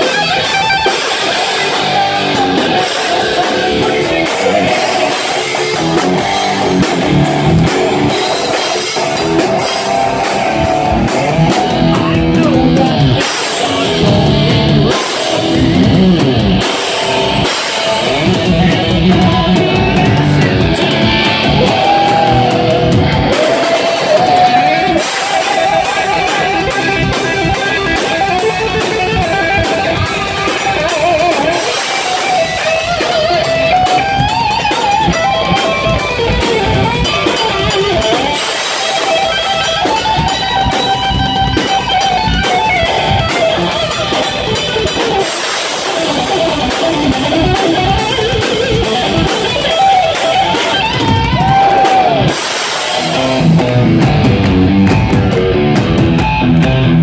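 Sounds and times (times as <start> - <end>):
drum kit: 0.0 - 57.0
electric guitar lead: 0.0 - 57.0
heavy metal band playing: 0.0 - 57.0.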